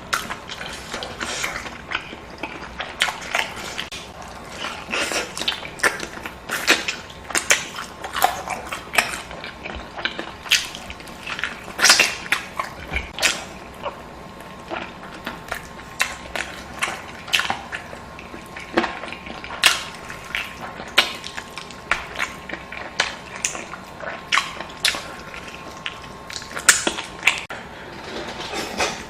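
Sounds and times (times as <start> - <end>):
wet chewing and mouth smacks: 0.1 - 27.5.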